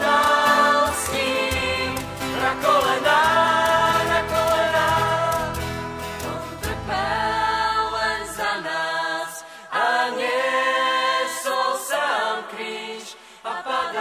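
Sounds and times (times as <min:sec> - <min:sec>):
gospel choir singing: 0:00.0 - 0:14.0.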